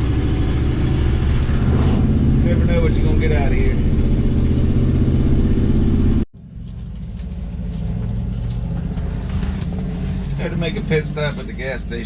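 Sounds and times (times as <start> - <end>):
pickup engine running: 0.0 - 12.0.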